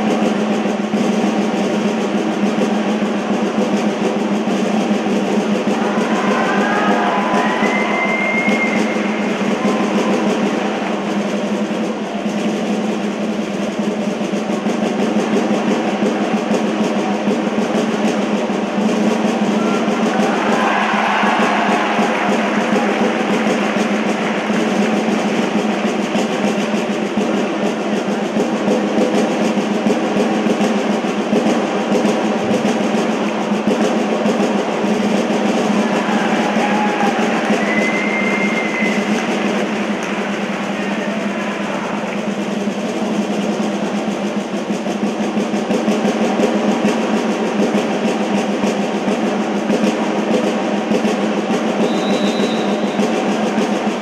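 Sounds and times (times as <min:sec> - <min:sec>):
snare drums rolling: 0:00.0 - 0:54.0.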